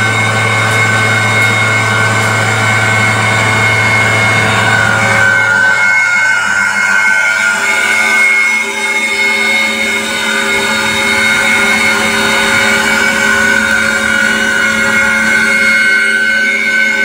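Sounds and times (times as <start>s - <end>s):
machine hum: 0.0s - 17.0s
machine whine: 0.0s - 17.0s.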